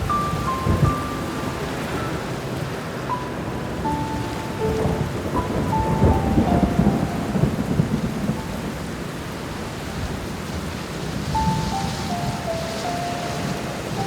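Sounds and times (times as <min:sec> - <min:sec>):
soft piano notes: 0:00.0 - 0:09.6, 0:10.8 - 0:14.0
steady rain: 0:00.0 - 0:14.0
thunder rumbling: 0:00.0 - 0:14.0.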